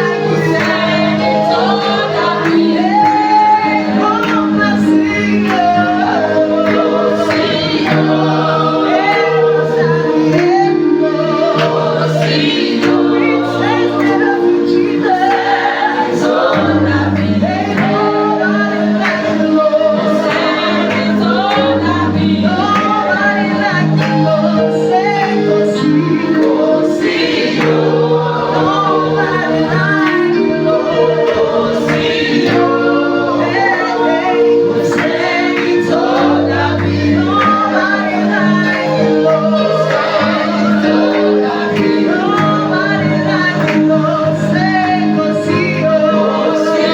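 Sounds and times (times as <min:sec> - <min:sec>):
group singing worship song: 0:00.0 - 0:46.9.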